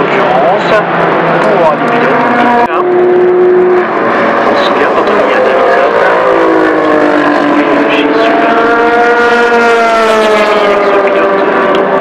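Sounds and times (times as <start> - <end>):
race car engine passing at speed: 0.0 - 12.0.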